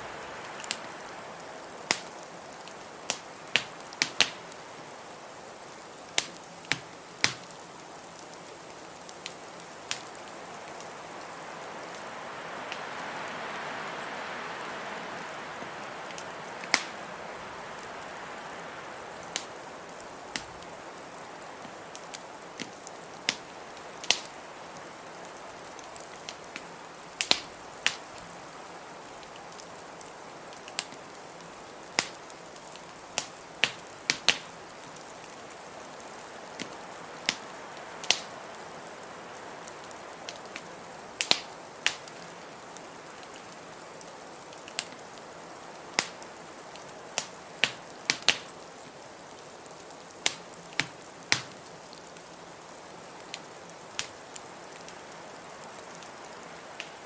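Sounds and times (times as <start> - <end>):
soft steady hiss: 0.0 - 57.0
wood fire crackling: 0.0 - 57.0.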